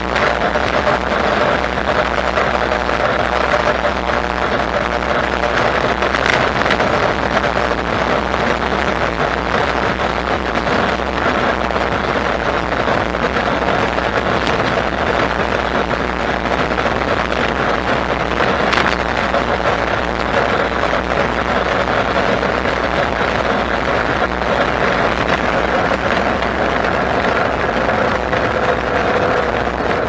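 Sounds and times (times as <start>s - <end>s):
low steady hum: 0.0s - 30.0s
road noise: 0.0s - 30.0s
rushing wind: 0.0s - 30.0s.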